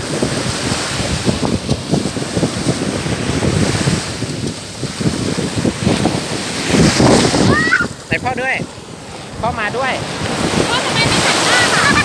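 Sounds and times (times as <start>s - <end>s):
small waves breaking on beach: 0.0s - 12.0s
wind buffeting microphone: 0.0s - 12.0s.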